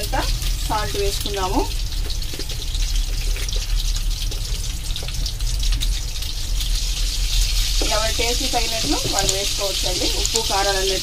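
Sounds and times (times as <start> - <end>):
eggs sizzling in oil: 0.0 - 11.0.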